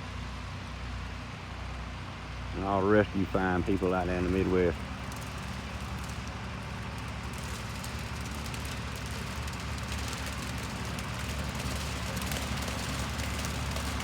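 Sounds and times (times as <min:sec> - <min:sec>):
tractor engine drone: 0:00.0 - 0:14.0
mower whirring: 0:02.6 - 0:14.0.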